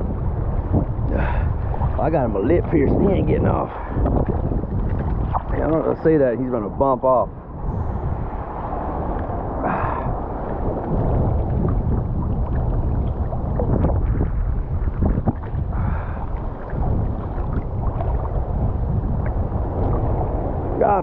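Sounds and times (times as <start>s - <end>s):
surf water sloshing: 0.0s - 21.0s
wind buffeting microphone: 0.0s - 21.0s.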